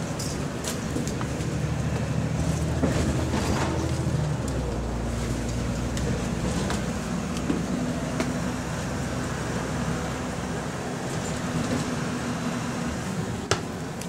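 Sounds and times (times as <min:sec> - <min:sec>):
bus engine and road hum: 0:00.0 - 0:14.0.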